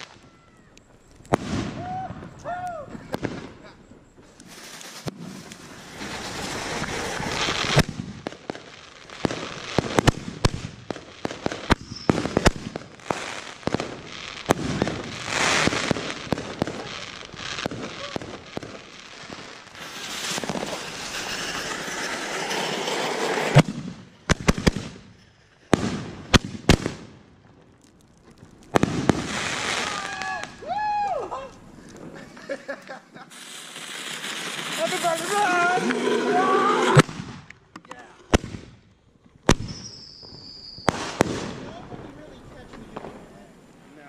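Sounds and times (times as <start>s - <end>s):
fireworks cracks and bangs: 0.0s - 44.0s
fireworks hissing: 1.0s - 27.4s, 28.2s - 37.5s, 39.5s - 44.0s.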